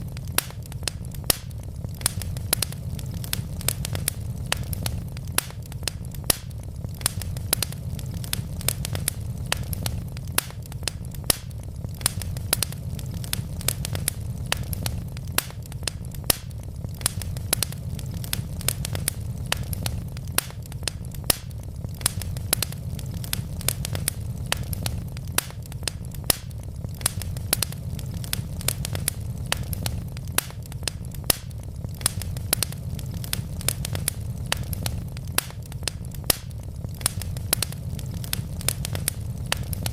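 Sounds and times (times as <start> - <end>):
wood logs crackling: 0.0 - 39.9.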